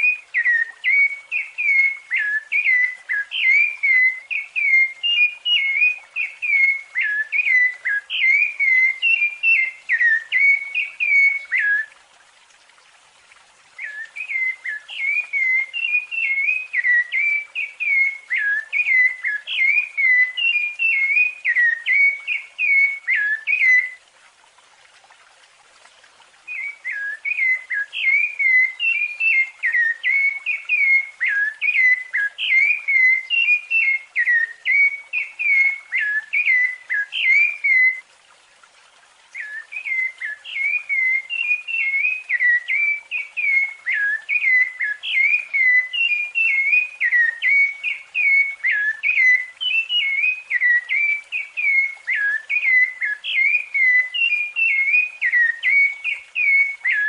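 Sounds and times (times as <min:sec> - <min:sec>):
thrush singing whistled notes: 0:00.0 - 0:12.0, 0:13.8 - 0:24.0, 0:26.4 - 0:38.1, 0:39.3 - 0:57.0.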